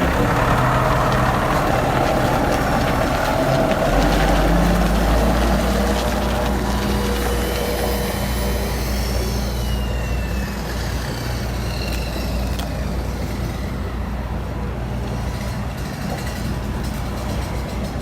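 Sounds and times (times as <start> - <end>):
heavy vehicle engine: 0.0 - 18.0
road rumble: 0.0 - 18.0.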